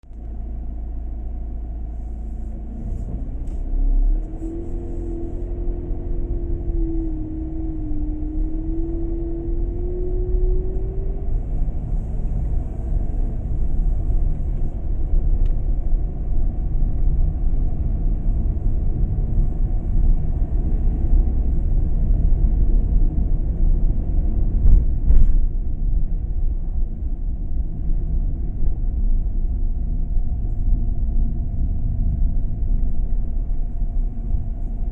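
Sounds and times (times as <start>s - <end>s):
engine and road rumble: 0.0s - 34.9s.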